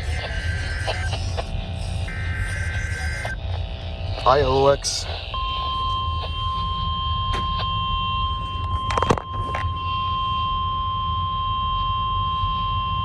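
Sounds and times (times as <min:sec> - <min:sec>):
high alarm tone: 0:00.0 - 0:13.0.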